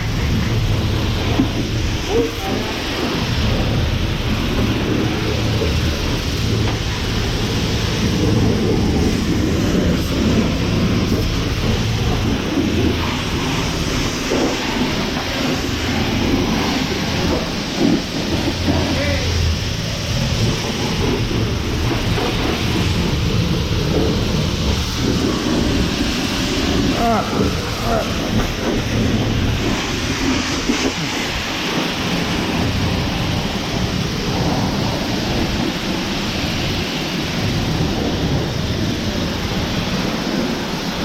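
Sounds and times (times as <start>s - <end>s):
pressure washer spraying water: 0.0s - 41.0s.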